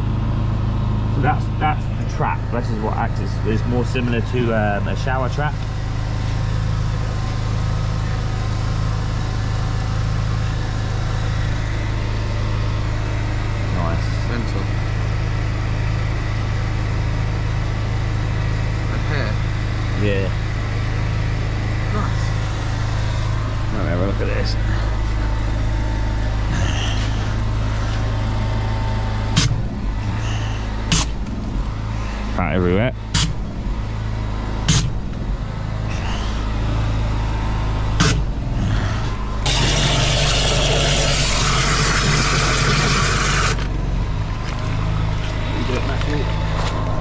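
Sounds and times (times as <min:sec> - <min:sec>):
machine engine droning: 0:00.0 - 0:47.0.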